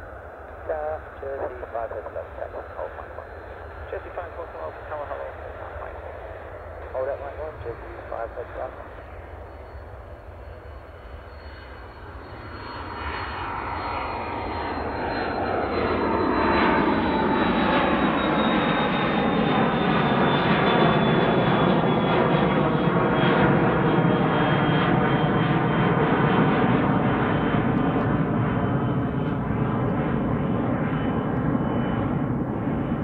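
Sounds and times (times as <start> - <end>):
high engine whine: 0.0 - 33.0
jet engines roaring: 0.0 - 33.0.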